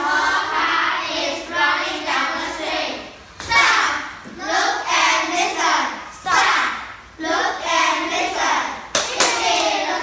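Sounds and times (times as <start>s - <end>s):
children singing and chanting: 0.0s - 10.0s.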